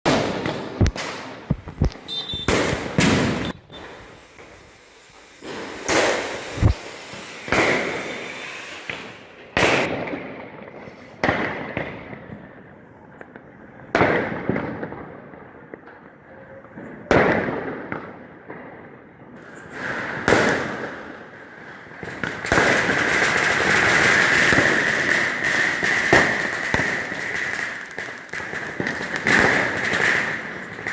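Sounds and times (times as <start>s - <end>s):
firecrackers banging: 0.0s - 12.5s, 17.1s - 30.9s.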